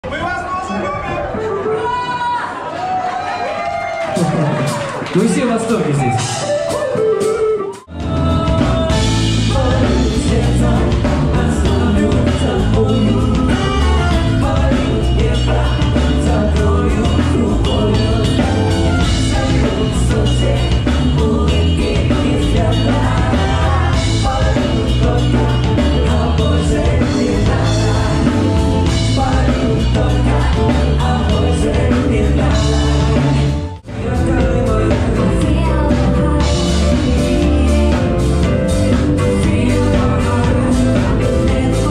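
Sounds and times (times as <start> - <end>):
live pop-rock band playing: 4.0 - 41.9.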